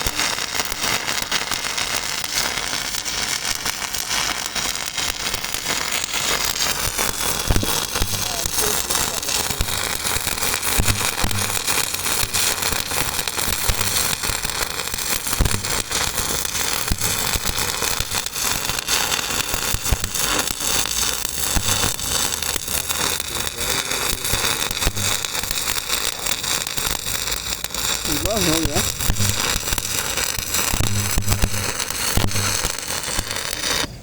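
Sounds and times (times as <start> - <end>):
welding arc crackling and sizzling: 0.0 - 34.0.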